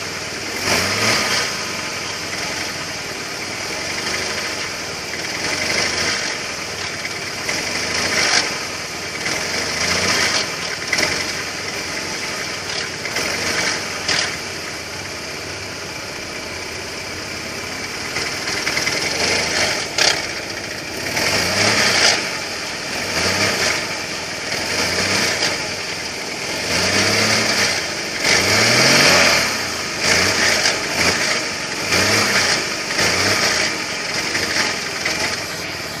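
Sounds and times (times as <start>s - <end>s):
petrol engine rattling and revving: 0.0s - 36.0s.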